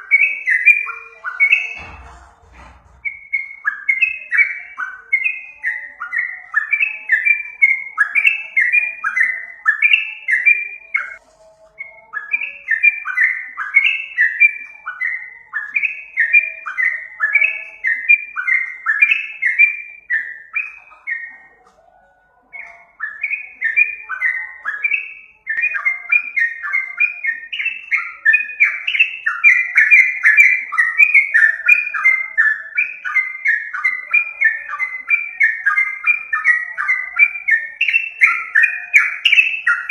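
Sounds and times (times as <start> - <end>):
bird chattering song: 0.0 - 21.7, 22.5 - 39.9.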